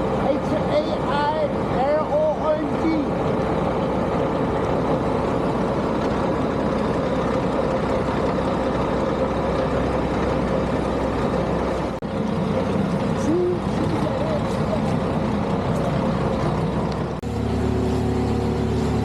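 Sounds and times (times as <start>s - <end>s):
heavy machinery engines running: 0.0s - 19.0s.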